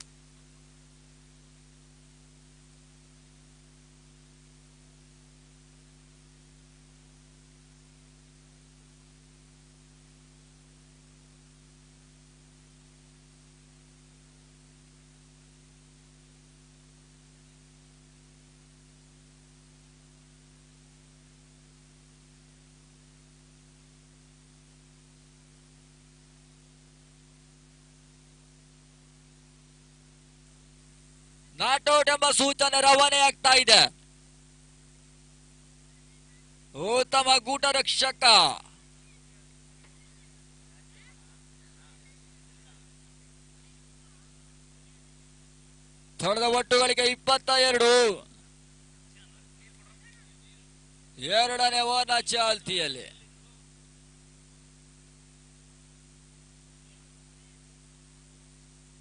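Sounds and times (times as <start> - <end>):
electrical hum with hiss: 0.0 - 59.0.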